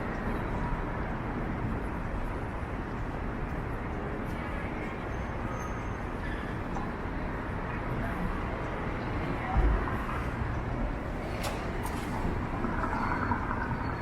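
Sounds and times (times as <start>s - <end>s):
traffic hum: 0.0s - 14.0s.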